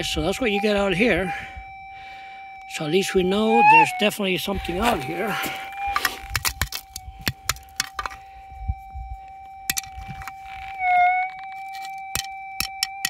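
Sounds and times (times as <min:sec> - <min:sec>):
metal detector humming tone: 0:00.0 - 0:13.0.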